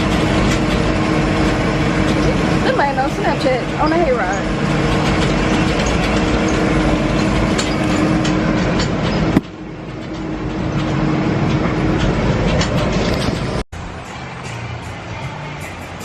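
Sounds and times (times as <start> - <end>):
wagon rumbling and rattling: 0.0 - 14.0
steady engine hum: 0.0 - 16.0.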